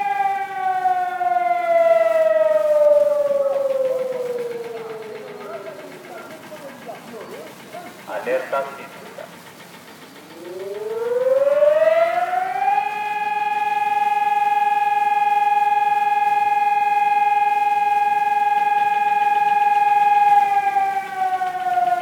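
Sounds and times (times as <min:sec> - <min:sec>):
warning siren: 0:00.0 - 0:09.2, 0:10.3 - 0:22.0.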